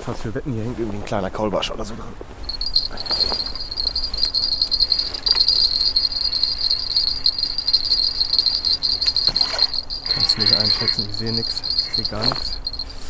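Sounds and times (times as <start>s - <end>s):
small bell jingling: 2.4s - 13.0s.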